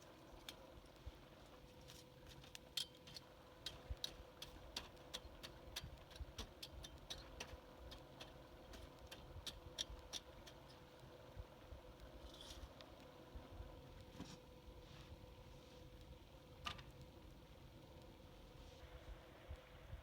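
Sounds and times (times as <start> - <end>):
campfire crackling and popping: 0.0 - 18.6.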